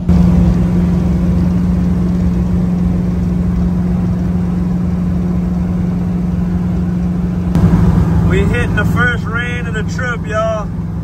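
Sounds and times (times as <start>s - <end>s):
car engine drone: 0.0s - 11.0s
road rumble: 0.0s - 11.0s.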